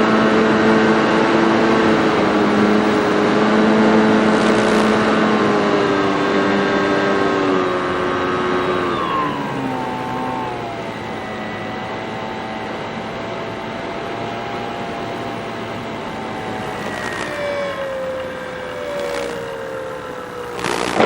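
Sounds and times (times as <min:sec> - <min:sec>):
model airplane motor and propeller: 0:00.0 - 0:21.0.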